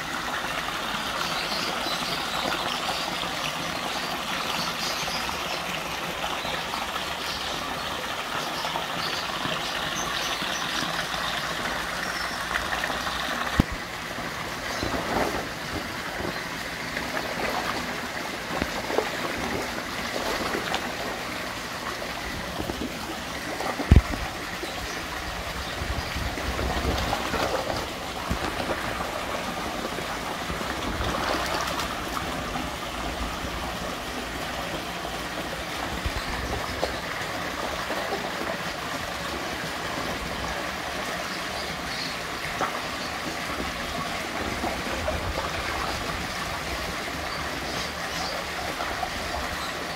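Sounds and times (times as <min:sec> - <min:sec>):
water splashing and gurgling: 0:00.0 - 0:49.9.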